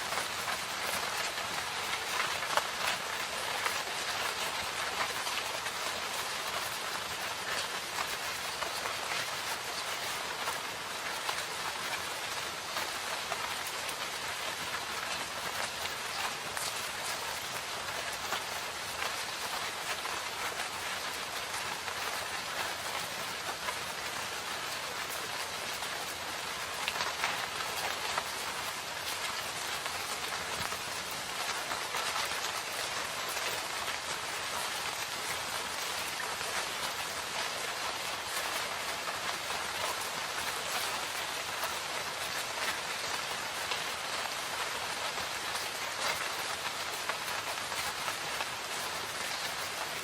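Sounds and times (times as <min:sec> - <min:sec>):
rain in a forest: 0:00.0 - 0:50.0
raindrops pattering on leaves: 0:00.0 - 0:50.0.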